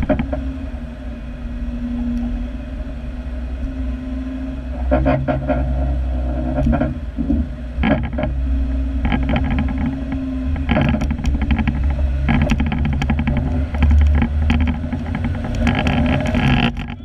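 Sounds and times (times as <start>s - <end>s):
off-road vehicle engine droning: 0.0s - 17.0s.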